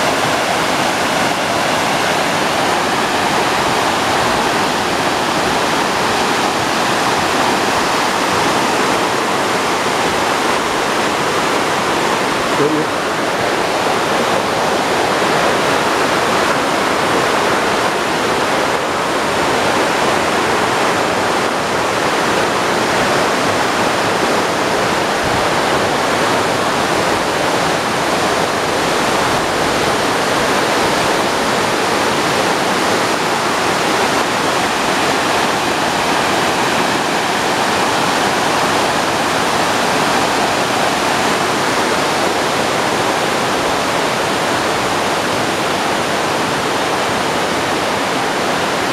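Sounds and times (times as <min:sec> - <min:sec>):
river rushing over rocks: 0:00.0 - 0:48.9.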